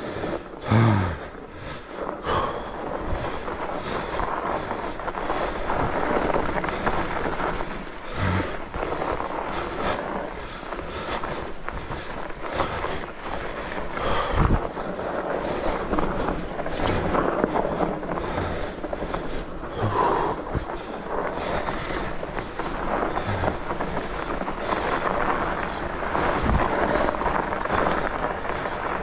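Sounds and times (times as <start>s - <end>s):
bike tyres crunching on snow: 0.0s - 29.0s
wind on microphone: 0.0s - 29.0s.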